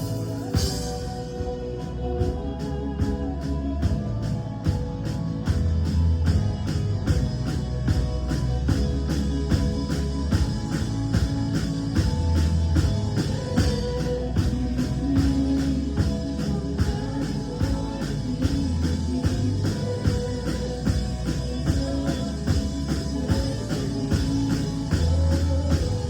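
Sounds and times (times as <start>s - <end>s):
live band playing instrumental: 0.0s - 3.2s, 3.8s - 26.0s
drum kit steady beat: 0.0s - 26.0s.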